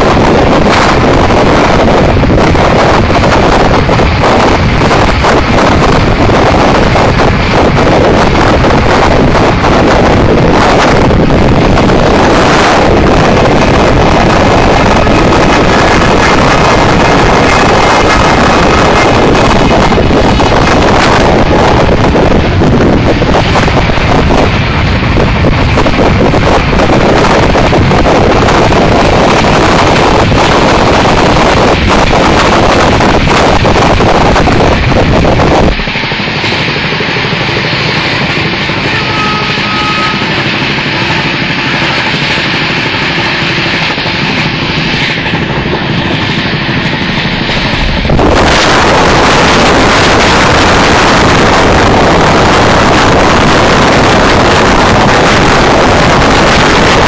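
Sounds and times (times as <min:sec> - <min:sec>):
train rumble and wheel rattle: 0:00.0 - 0:57.0
wind blasting across microphone: 0:00.0 - 0:57.0.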